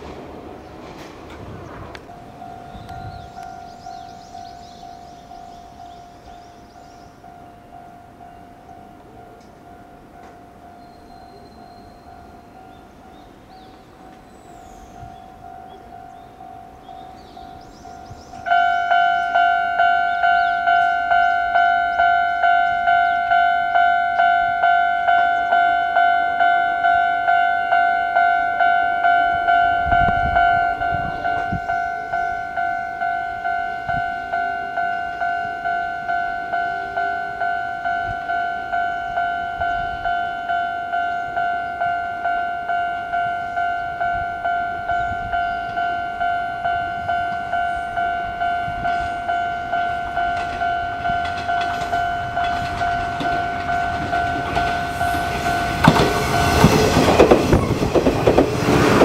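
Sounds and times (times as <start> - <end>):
level crossing bell clanging: 2.0 - 58.4.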